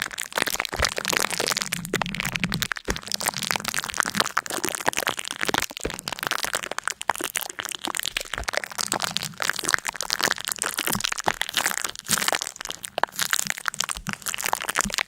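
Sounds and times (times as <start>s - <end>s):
brittle crackling and crunching: 0.0s - 15.0s.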